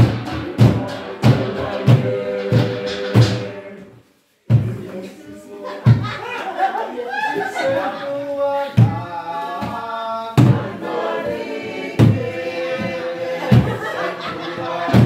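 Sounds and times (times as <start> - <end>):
group singing in harmony: 0.0 - 15.0.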